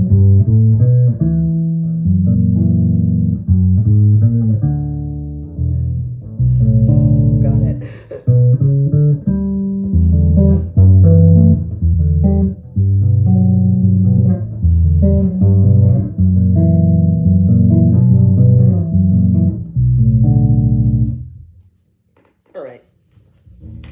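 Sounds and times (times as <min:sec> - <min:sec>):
electric bass playing chords: 0:00.0 - 0:21.5.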